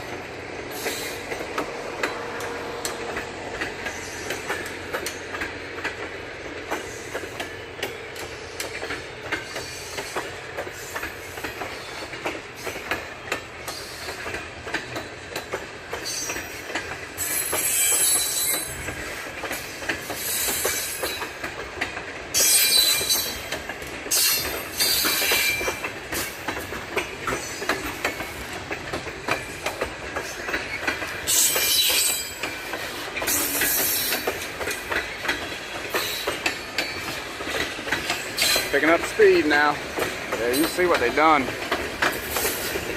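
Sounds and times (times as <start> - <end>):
freight train rolling past: 0.0 - 42.9
wheels clicking over rail joints: 0.0 - 42.9.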